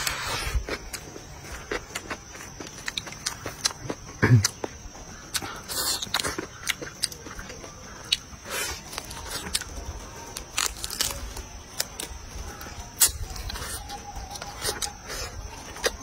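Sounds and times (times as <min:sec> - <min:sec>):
person chewing: 0:00.0 - 0:09.8, 0:10.4 - 0:12.1, 0:13.0 - 0:16.0.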